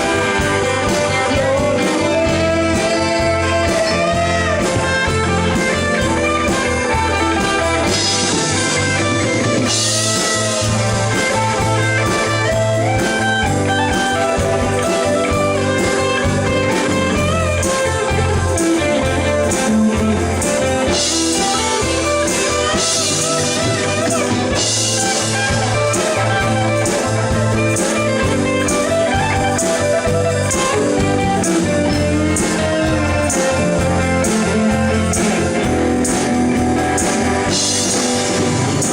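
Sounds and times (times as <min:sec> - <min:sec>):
bass line: 0:00.0 - 0:38.9
drums with cymbals: 0:00.0 - 0:38.9
lead guitar bent notes: 0:00.0 - 0:38.9.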